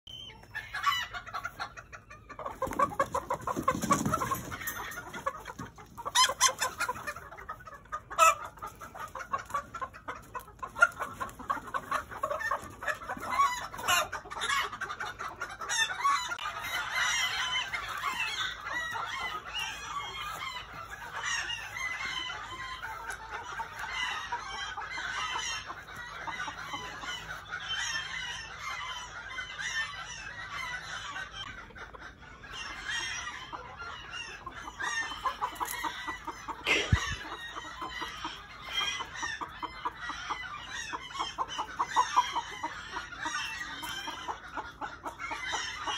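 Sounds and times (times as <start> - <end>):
chickens clucking and cackling: 0.1 - 45.9.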